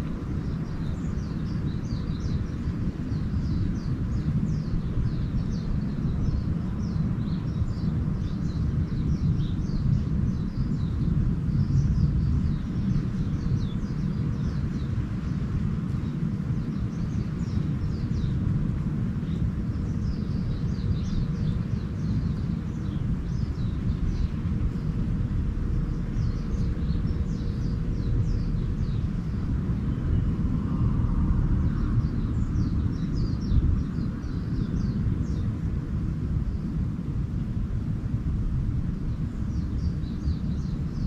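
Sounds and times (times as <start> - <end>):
small birds twittering: 0.0 - 41.0
steady low rumble: 0.0 - 41.0.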